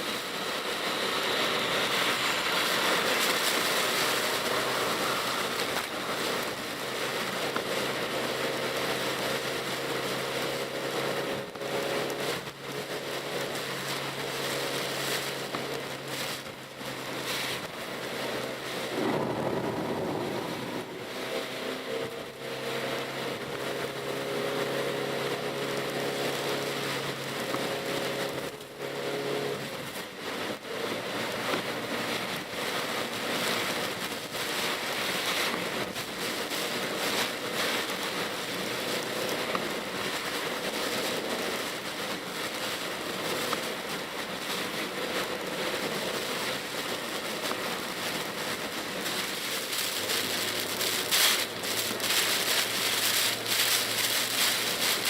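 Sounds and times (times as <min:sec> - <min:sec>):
car engine hum: 0:00.0 - 0:55.0
tyre and road noise: 0:00.0 - 0:55.0
rain hitting car roof: 0:00.1 - 0:55.0.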